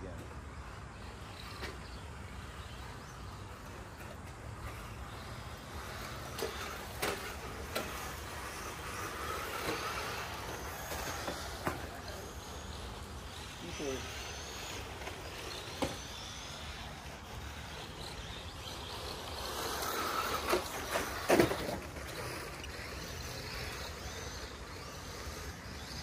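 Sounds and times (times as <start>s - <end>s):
rc car motor whine: 0.0s - 26.0s.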